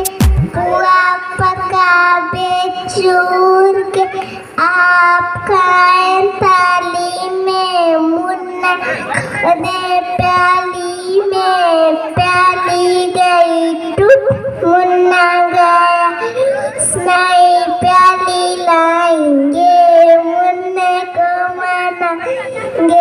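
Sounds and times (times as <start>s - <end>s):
girl singing into microphone: 0.0s - 23.0s.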